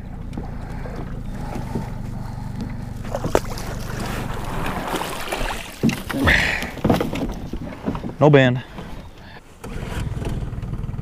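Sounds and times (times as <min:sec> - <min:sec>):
water noise: 0:00.0 - 0:09.7
outboard motor idling: 0:00.0 - 0:11.0.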